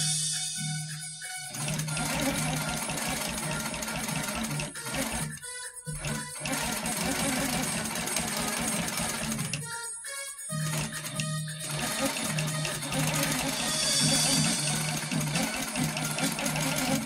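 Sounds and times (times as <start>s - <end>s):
quilting machine stitching: 1.5s - 9.6s, 10.6s - 17.0s.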